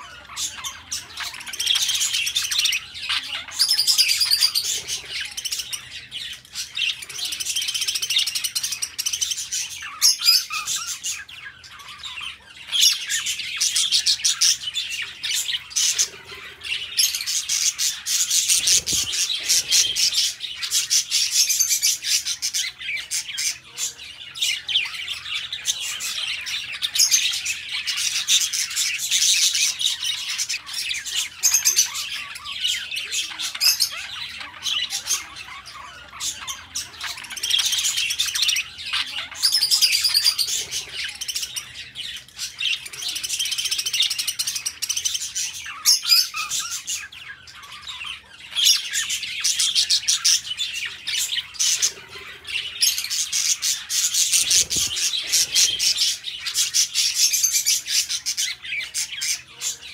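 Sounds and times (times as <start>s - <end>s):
budgerigars chirping: 0.0s - 59.9s.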